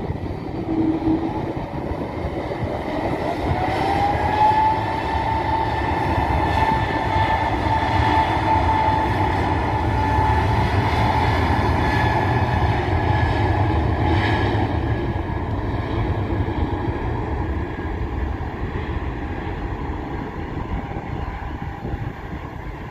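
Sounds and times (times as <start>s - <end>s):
deep engine rumble: 0.0s - 22.9s
jet engines moaning tones: 0.0s - 22.9s.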